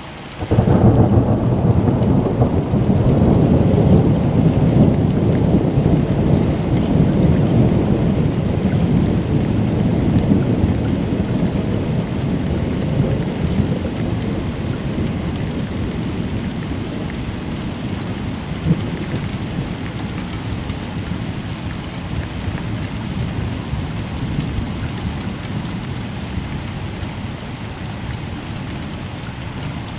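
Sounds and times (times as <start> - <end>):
rain falling: 0.0 - 29.9
rolling thunder: 0.4 - 26.4.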